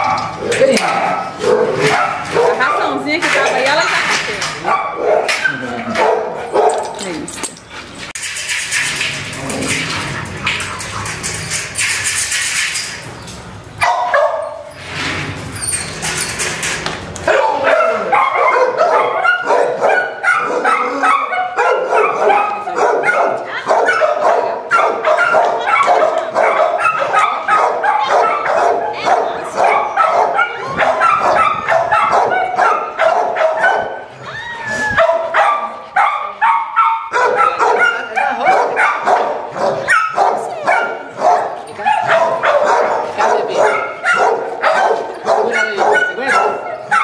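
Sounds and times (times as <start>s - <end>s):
dogs barking and yipping: 0.0s - 47.0s.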